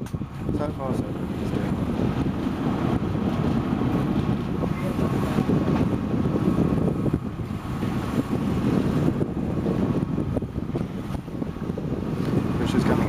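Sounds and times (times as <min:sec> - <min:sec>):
boat engine rumble: 0:00.0 - 0:13.0
wind buffeting the microphone: 0:00.0 - 0:13.0.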